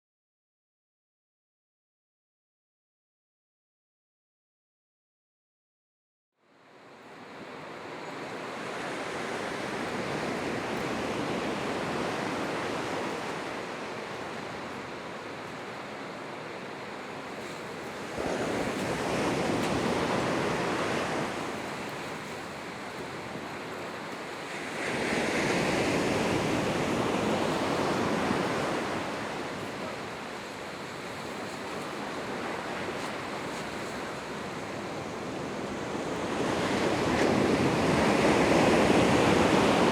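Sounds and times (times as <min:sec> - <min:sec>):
ocean waves breaking: 0:06.7 - 0:39.9.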